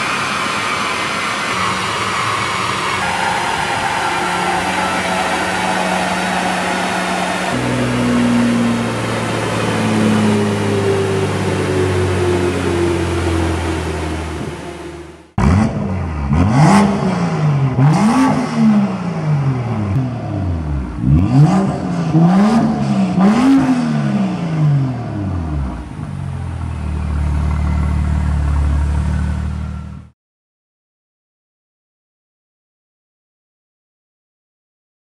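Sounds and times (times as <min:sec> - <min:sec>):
car engine revving and idling: 0:00.0 - 0:30.1.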